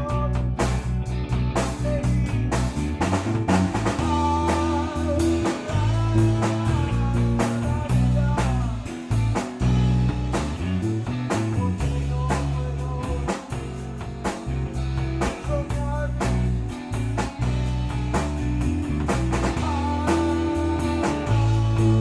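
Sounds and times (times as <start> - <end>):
bass guitar notes: 0.0 - 22.0
drum-kit beat: 0.0 - 22.0
electric guitars: 0.0 - 22.0.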